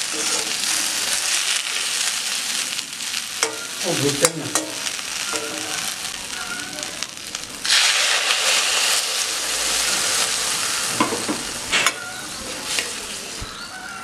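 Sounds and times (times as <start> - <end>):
loud hiss of water boiling: 0.0 - 14.0
vegetables sizzling in a wok: 0.0 - 14.0.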